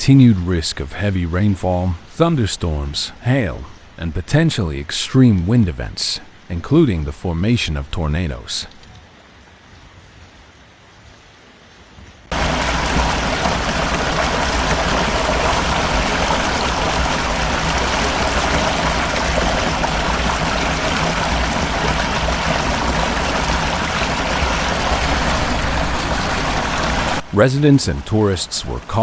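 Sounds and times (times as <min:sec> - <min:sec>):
floodwater rushing: 0:00.0 - 0:09.7, 0:12.3 - 0:29.0.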